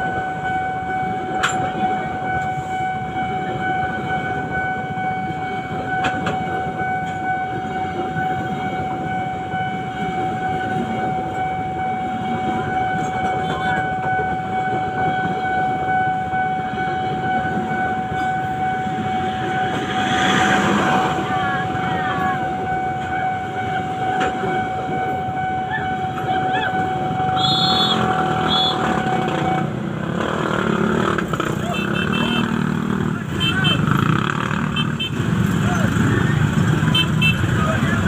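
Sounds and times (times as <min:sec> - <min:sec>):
crossing signal warning tone: 0:00.0 - 0:38.0
train rumble: 0:00.0 - 0:38.0.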